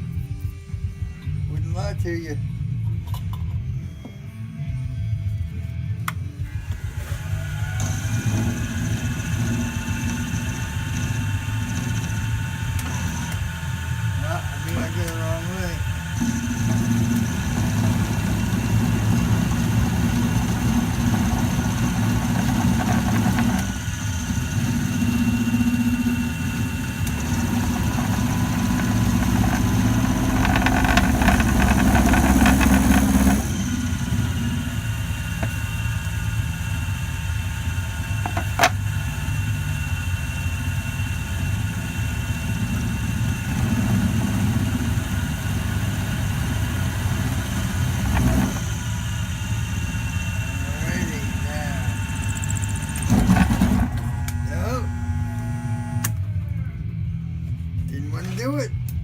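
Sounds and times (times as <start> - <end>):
milling machine cutting steel: 6.6 - 56.2.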